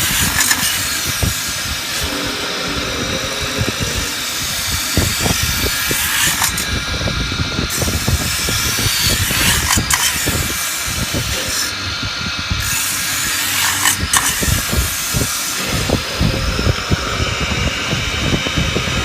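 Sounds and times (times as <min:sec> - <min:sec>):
metal spinning lathe running: 0:00.0 - 0:19.0.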